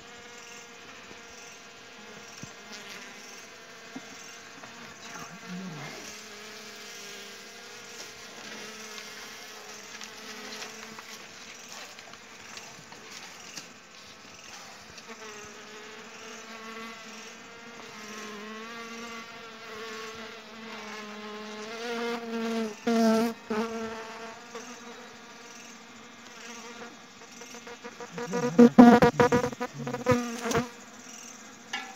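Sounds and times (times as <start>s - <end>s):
honey bees buzzing: 0.0s - 31.7s.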